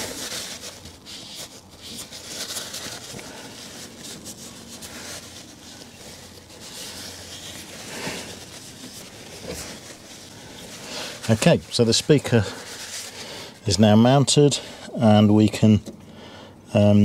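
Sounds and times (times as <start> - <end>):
cloth rubbing: 0.0 - 13.8.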